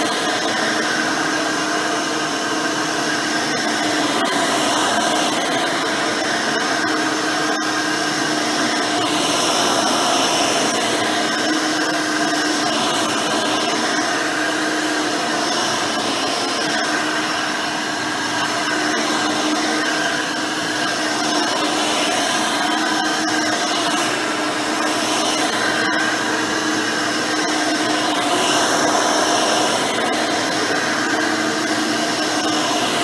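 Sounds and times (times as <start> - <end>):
upright vacuum cleaner running: 0.0 - 33.0.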